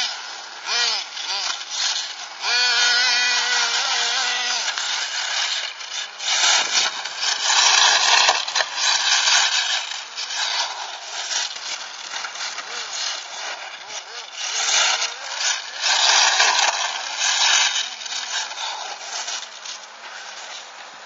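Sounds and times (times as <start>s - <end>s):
electric motor whine: 0.0s - 21.0s
loud rough hiss: 0.0s - 21.0s.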